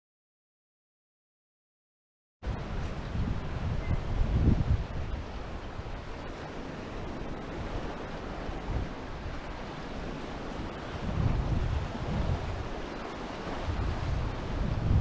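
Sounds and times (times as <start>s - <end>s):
ocean surf washing on shore: 2.4s - 15.0s
wind buffeting microphone: 2.4s - 15.0s.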